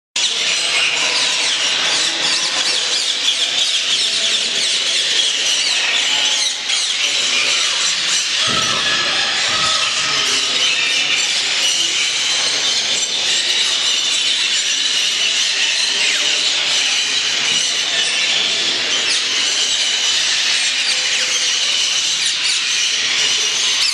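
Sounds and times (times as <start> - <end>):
parakeets and parrots chattering: 0.2 - 23.9.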